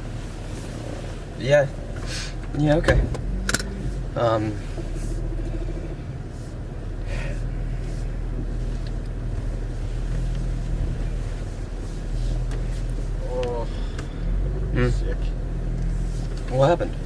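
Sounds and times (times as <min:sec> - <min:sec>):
car engine humming: 0:00.0 - 0:17.0
road noise: 0:00.0 - 0:17.0.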